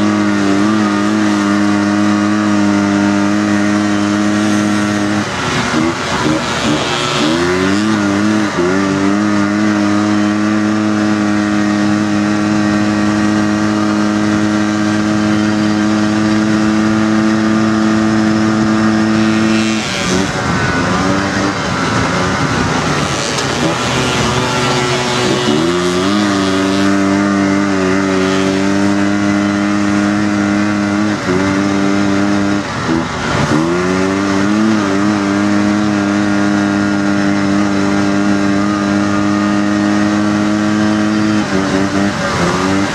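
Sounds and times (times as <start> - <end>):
buggy engine revving: 0.0 - 42.9.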